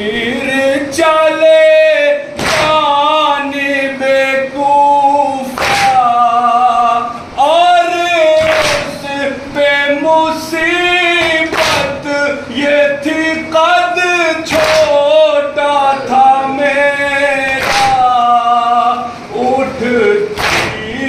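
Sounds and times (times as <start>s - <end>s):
man chanting a lament: 0.0s - 21.0s.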